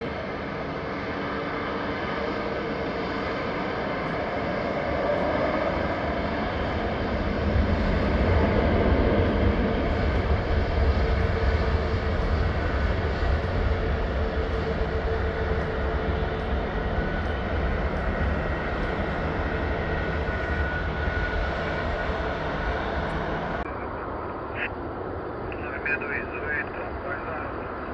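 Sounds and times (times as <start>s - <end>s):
airplane engine drone: 0.0s - 27.9s.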